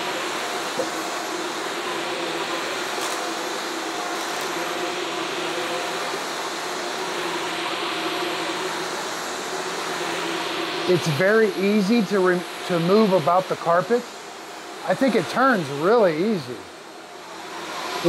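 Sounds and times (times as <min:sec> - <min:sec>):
vacuum cleaner running on carpet: 0:00.0 - 0:18.0.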